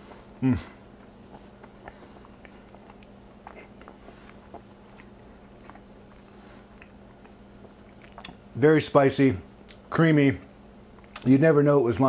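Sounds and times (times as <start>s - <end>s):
faint crunchy chewing: 0.0s - 8.5s, 9.6s - 11.3s
faint steady hum: 0.0s - 12.0s.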